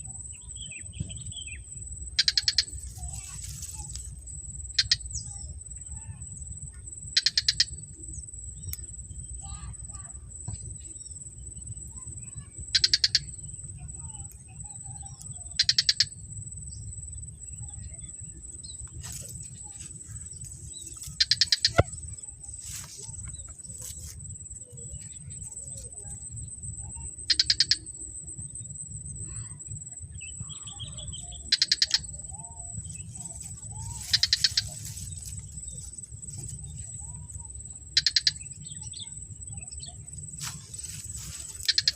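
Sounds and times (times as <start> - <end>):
crickets trilling: 0.0 - 41.9
rapid insect chirps: 0.0 - 41.9.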